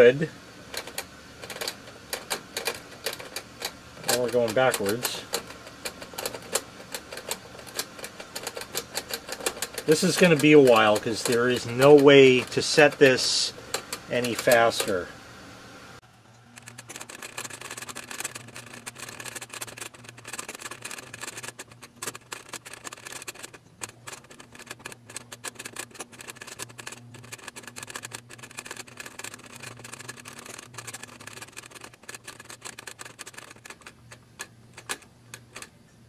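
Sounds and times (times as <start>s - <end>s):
flip clock cards clicking: 0.7s - 15.1s, 16.6s - 35.8s.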